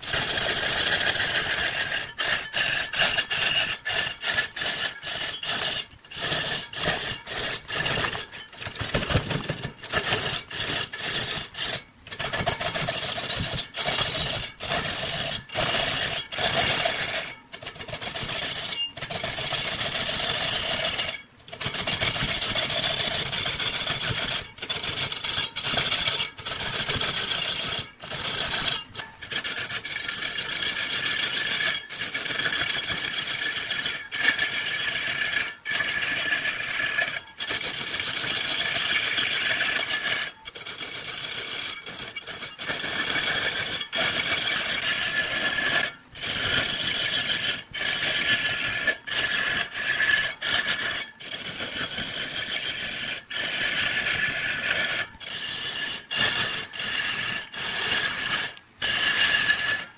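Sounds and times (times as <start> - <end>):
lathe tool scraping wood: 0.0 - 59.9.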